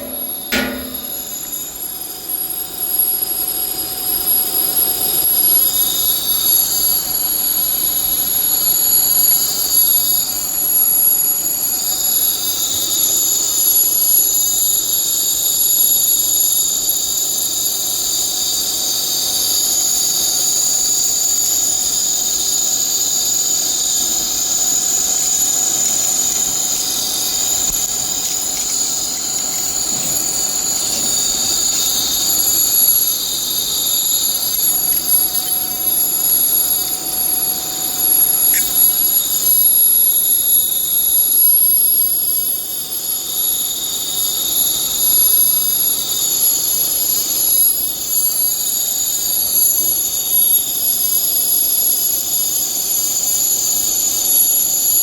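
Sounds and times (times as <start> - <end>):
machinery high-pitched whine: 0.0 - 55.0.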